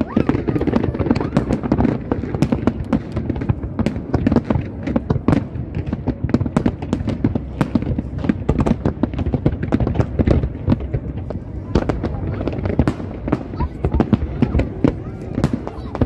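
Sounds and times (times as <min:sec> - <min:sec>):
continuous low rumble: 0:00.0 - 0:16.0
fireworks bursting: 0:00.0 - 0:16.0.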